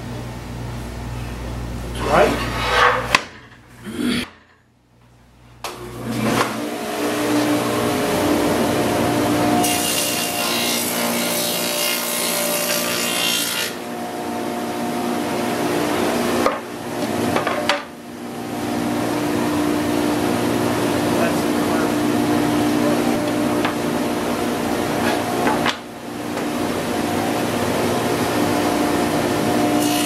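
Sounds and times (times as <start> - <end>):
table saw cutting wood: 5.7 - 30.0
table saw running: 5.8 - 30.0.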